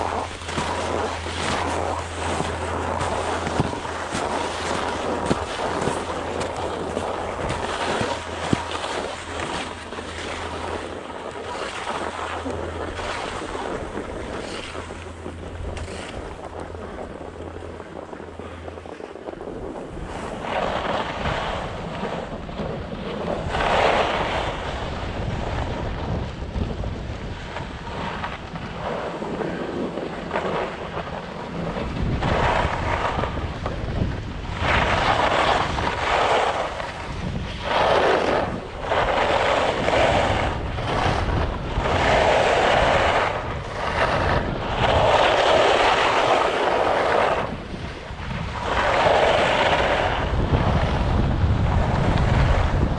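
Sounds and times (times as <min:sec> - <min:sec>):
skis carving on snow: 0:00.0 - 0:52.9
wind on microphone: 0:00.0 - 0:52.9.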